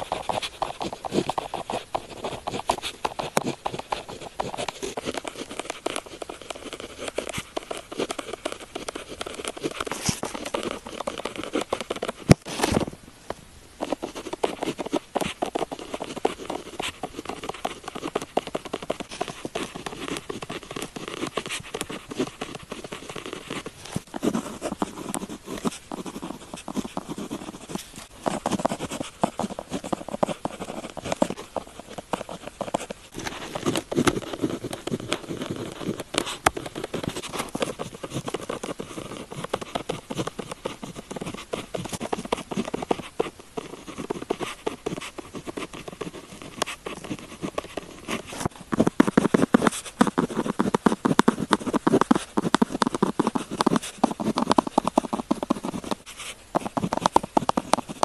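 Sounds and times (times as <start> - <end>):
pen scratching on paper: 0.0 - 12.8, 13.8 - 58.0.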